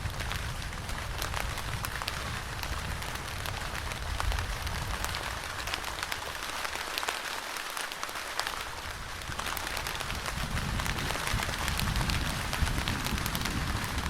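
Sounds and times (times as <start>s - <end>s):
rain drops ticking: 0.0s - 14.0s.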